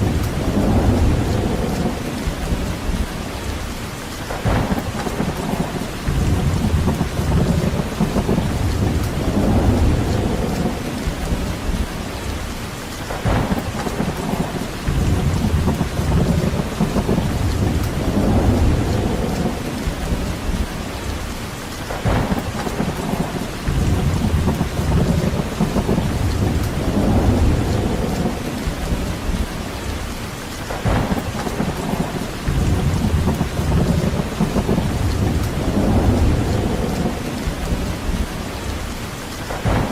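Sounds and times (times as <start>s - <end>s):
low rumbles: 0.0s - 39.9s
steady rain falling: 0.0s - 39.9s.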